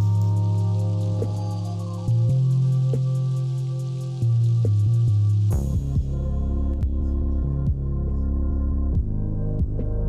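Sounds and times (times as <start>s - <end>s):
electronic ambient music: 0.0s - 10.0s.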